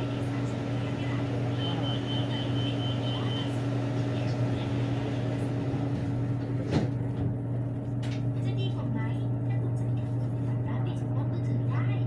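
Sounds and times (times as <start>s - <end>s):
train car low hum: 0.0s - 12.0s.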